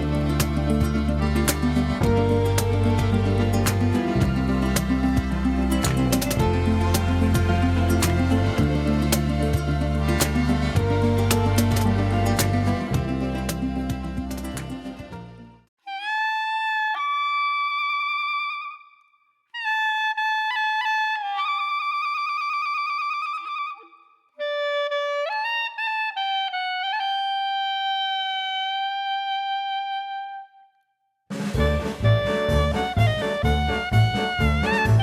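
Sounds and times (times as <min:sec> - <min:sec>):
solo instrument melody: 0:00.0 - 0:30.8, 0:31.5 - 0:35.0.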